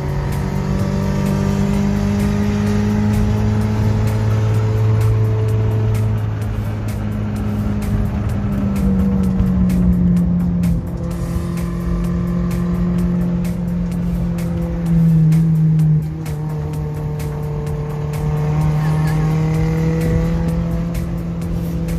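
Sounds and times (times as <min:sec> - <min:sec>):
car engine running: 0:00.0 - 0:21.9
music playing: 0:00.0 - 0:21.9.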